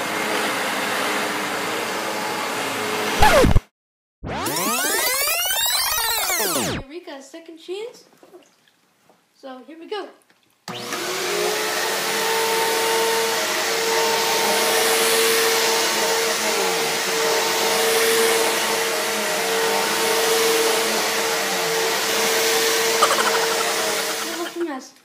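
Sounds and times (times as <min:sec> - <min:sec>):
vacuum cleaner motor whine: 0:00.0 - 0:03.6, 0:04.2 - 0:06.8, 0:10.7 - 0:24.6.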